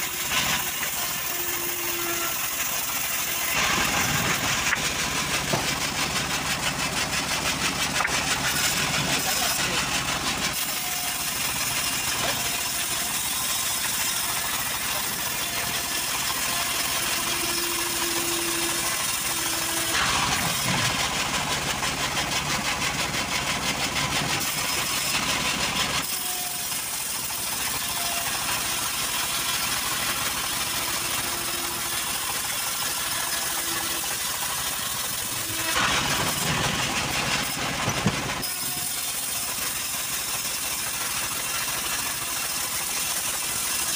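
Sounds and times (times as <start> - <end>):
diesel engine running: 0.0 - 43.9
saw blade cutting through log: 0.0 - 43.9.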